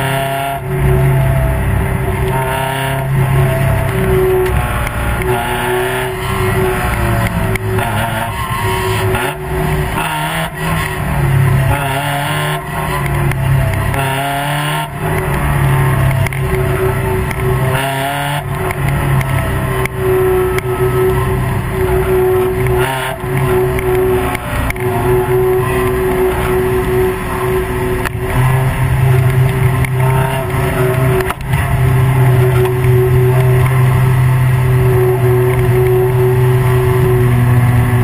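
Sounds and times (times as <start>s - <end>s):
race car engines revving: 0.0s - 38.0s.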